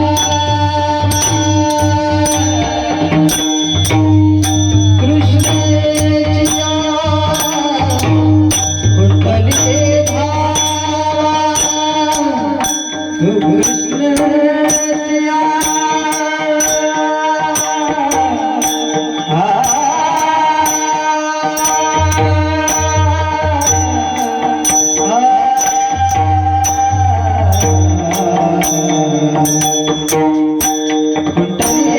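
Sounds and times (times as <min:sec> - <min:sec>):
small hand cymbals clicking: 0:00.0 - 0:31.9.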